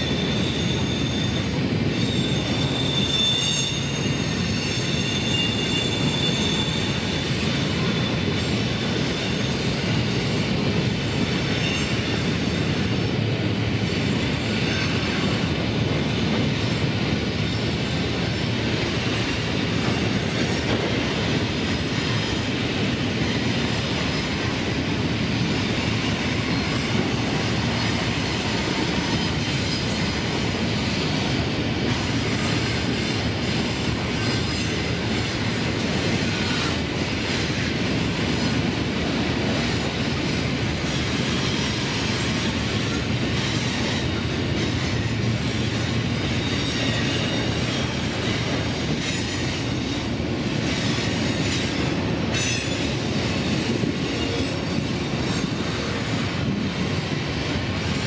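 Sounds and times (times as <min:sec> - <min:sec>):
diesel locomotive engines: 0:00.0 - 0:58.0
freight train wheels clattering: 0:00.0 - 0:58.0.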